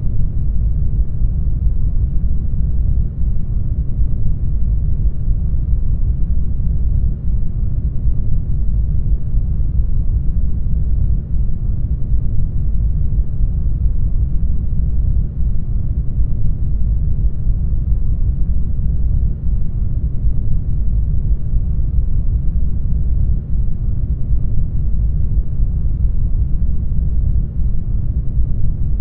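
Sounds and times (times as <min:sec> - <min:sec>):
deep muffled rumbling: 0:00.0 - 0:29.0.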